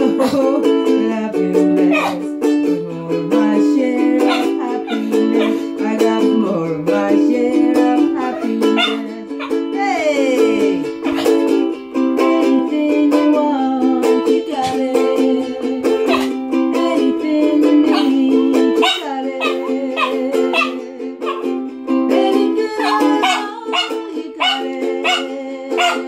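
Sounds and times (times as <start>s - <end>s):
ukulele strumming: 0.0s - 26.0s.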